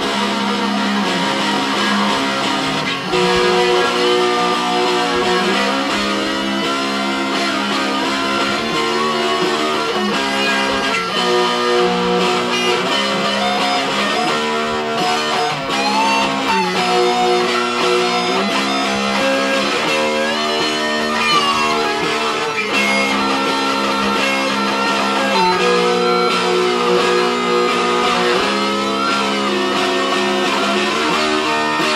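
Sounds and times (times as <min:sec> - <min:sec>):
electric guitar chords: 0:00.0 - 0:31.9
guitar lead line bending: 0:00.0 - 0:31.9.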